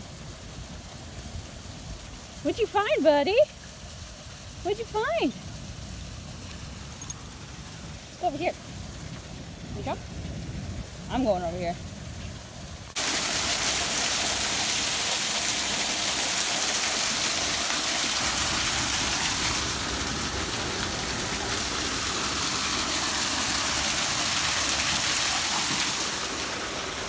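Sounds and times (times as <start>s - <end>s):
waterfall splashing: 0.0s - 27.0s.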